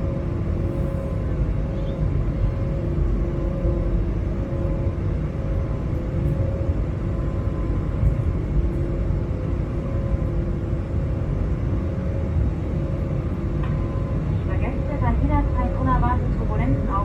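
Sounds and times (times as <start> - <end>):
airplane cabin rumble: 0.0 - 17.0
faint engine hum: 0.0 - 17.0.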